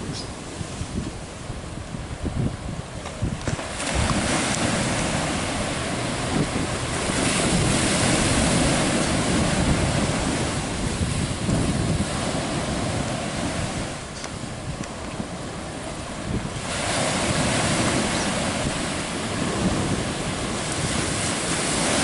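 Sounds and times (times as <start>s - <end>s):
rough sea surf breaking: 0.0s - 22.0s
wind buffeting microphone: 0.0s - 22.0s.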